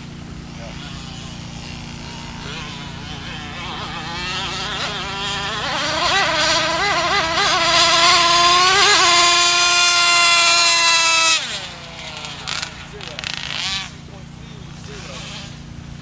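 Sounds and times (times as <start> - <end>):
model boat engine whining: 0.0 - 16.0.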